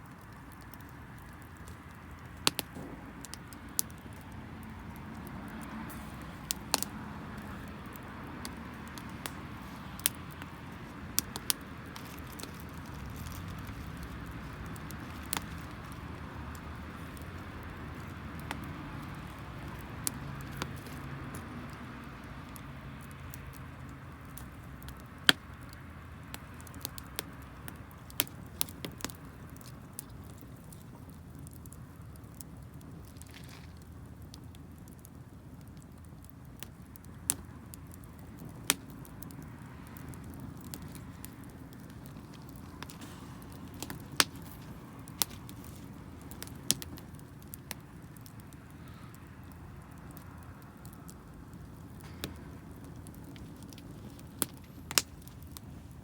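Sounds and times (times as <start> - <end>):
campfire flame rushing: 0.0 - 56.0
fire crackling and popping: 0.0 - 56.0.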